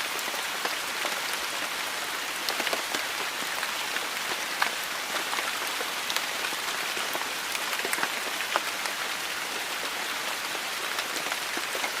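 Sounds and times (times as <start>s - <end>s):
raindrops dripping and splashing: 0.0s - 12.0s.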